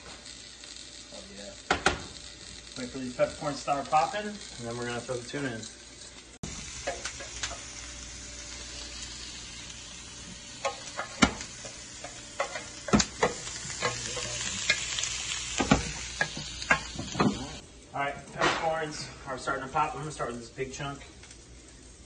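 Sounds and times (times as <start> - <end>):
oil and butter sizzling in a pan: 0.0 - 22.0.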